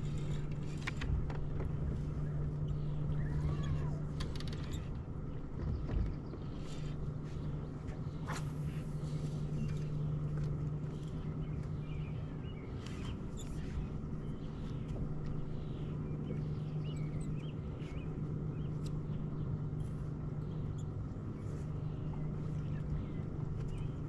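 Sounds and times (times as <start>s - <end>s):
electric motor low hum: 0.0s - 24.0s.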